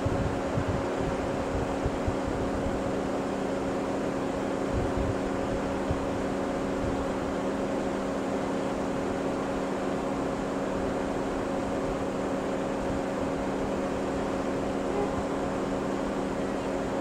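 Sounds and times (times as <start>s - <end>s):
multi-tone equipment hum: 0.0s - 17.0s.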